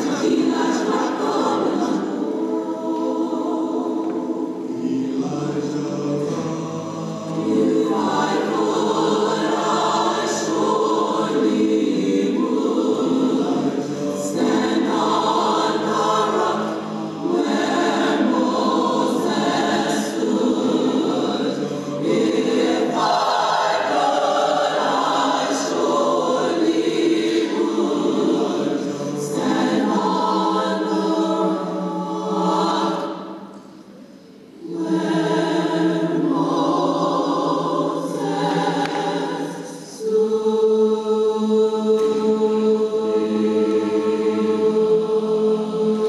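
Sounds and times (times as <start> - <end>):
mixed choir singing: 0.0 - 46.0.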